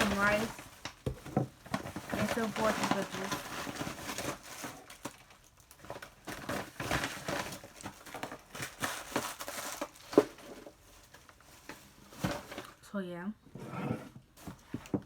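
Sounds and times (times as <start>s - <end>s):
food packaging crinkling and rustling: 0.0s - 12.8s, 14.1s - 15.0s.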